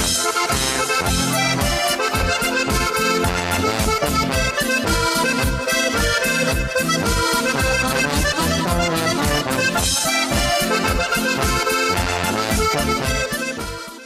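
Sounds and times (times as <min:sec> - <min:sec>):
steady bass beat: 0:00.0 - 0:13.8
upbeat accordion music: 0:00.0 - 0:14.0.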